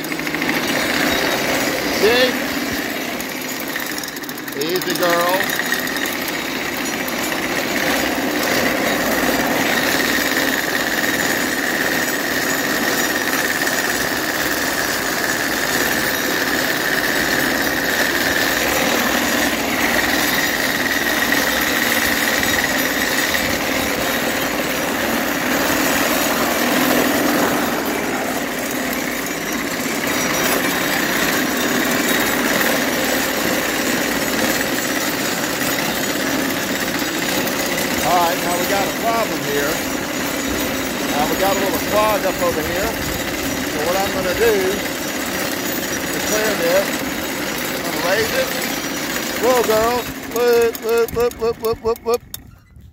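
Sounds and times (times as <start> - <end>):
mowing machine cutter bar clattering: 0.0 - 52.9.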